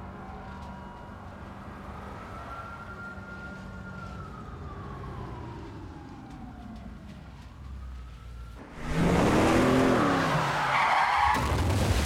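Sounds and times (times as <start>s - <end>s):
siren wailing: 0.1s - 11.4s.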